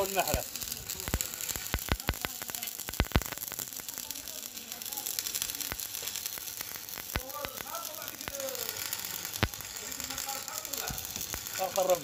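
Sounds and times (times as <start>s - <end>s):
arc welding hiss and crackle: 0.0s - 12.0s
sharp welding pops: 0.0s - 12.0s.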